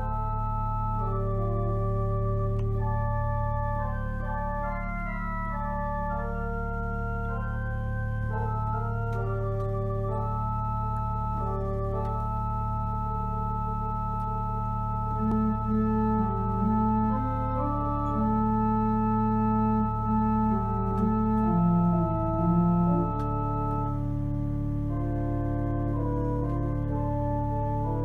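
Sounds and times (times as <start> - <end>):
church organ playing hymn: 0.0 - 28.0.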